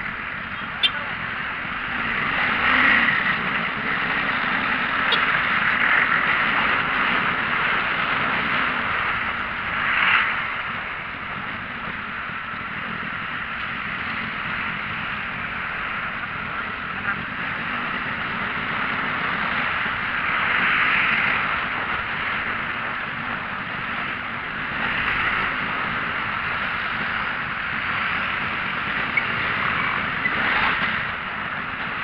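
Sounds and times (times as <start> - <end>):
traffic rushing past: 0.0 - 32.0.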